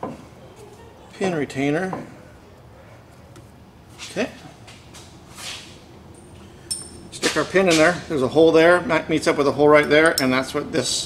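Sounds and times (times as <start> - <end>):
workshop background: 0.0 - 11.0.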